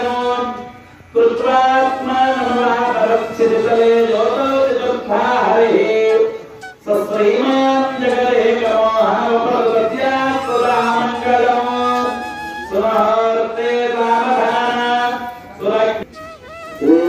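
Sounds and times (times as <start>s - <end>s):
priests chanting: 0.0s - 16.1s.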